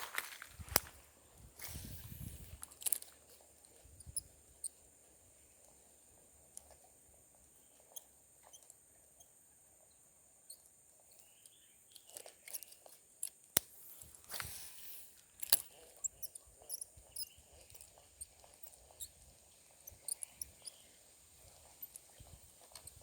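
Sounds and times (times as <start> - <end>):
steady high-pitched hiss: 0.1 - 12.0, 13.0 - 23.0
small clicks and ticks: 2.4 - 4.9, 6.4 - 23.0.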